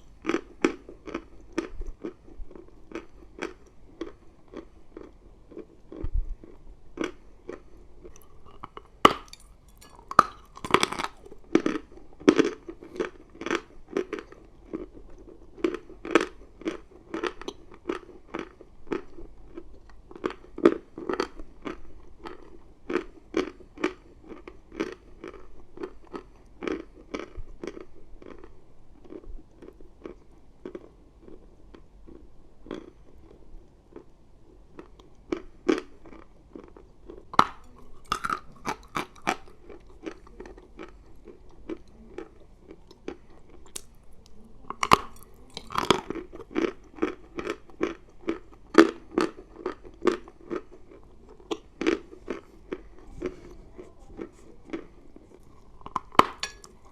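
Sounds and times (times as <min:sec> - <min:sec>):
chalk crunching while chewed: 0:00.0 - 0:34.1, 0:34.8 - 0:56.9.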